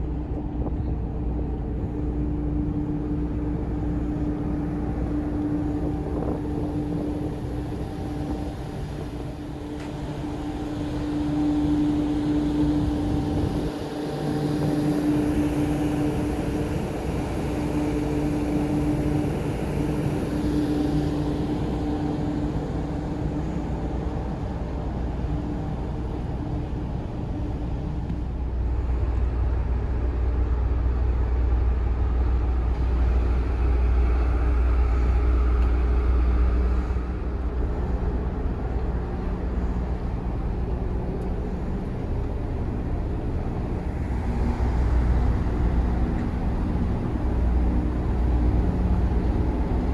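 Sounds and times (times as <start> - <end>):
deep low rumble: 0.0 - 16.6, 20.0 - 49.9
droning tone: 0.0 - 49.9
ferry machinery hum: 0.0 - 49.9.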